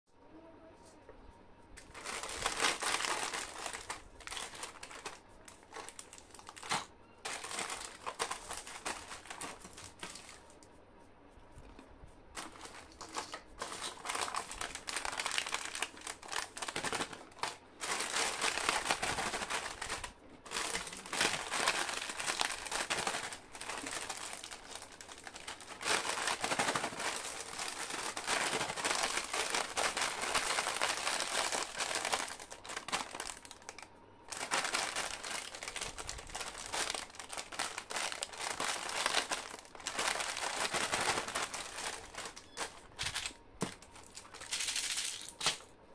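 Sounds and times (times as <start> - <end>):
plastic snack packets crinkling: 1.8 - 10.6, 12.4 - 45.7.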